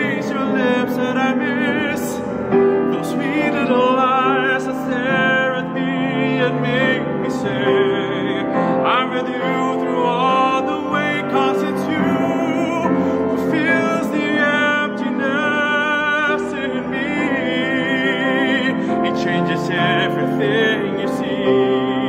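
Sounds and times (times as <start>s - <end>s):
grand piano: 0.0s - 22.0s
man singing with vibrato: 0.0s - 22.0s.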